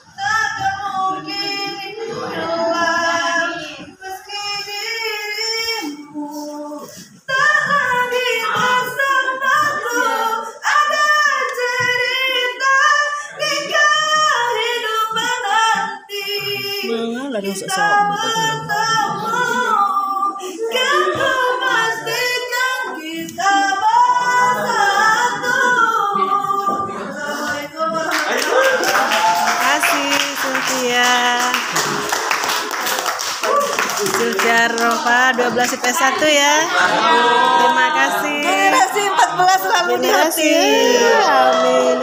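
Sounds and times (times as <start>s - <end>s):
girl singing: 0.0s - 28.4s, 34.2s - 42.0s.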